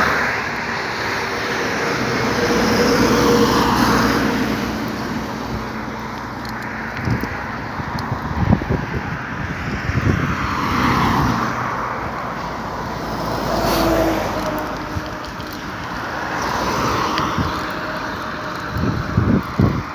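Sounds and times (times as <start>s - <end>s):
vehicle noise: 0.0s - 19.9s
wind noise: 0.0s - 19.9s.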